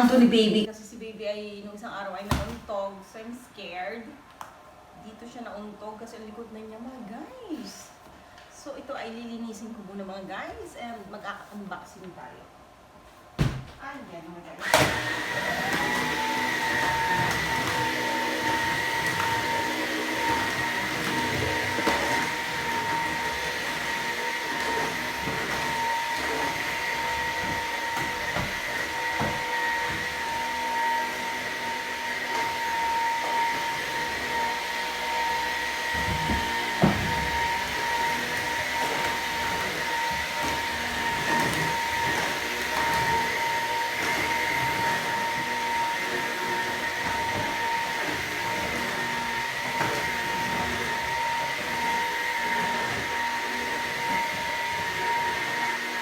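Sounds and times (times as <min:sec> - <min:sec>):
vacuum cleaner whining: 0:00.0 - 0:03.0, 0:13.4 - 0:56.0.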